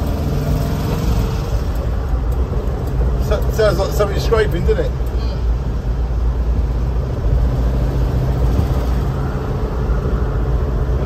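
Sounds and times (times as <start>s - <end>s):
road noise: 0.0s - 11.0s
van engine droning: 0.0s - 11.0s.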